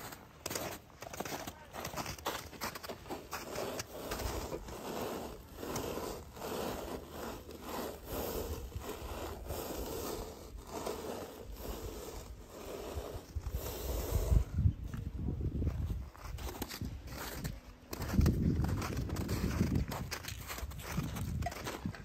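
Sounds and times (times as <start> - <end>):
metal pot scraping on crusty snow: 0.0 - 22.0.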